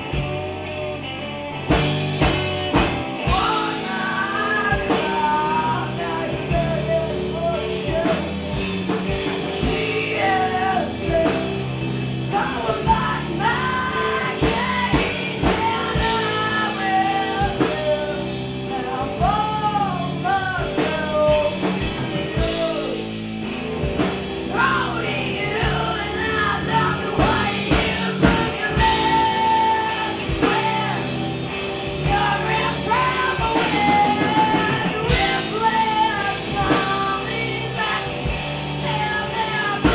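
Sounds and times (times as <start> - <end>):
punk rock band playing: 0.0 - 39.9
person singing: 2.7 - 23.2, 23.9 - 39.9.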